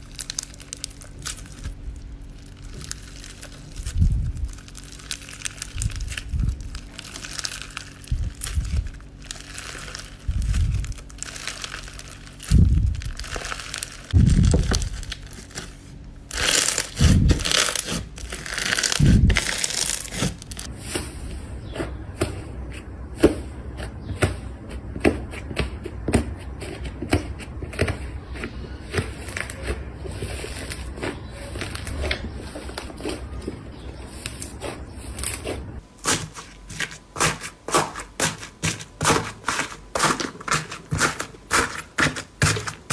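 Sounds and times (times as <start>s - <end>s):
slime squishing: 0.0s - 42.9s.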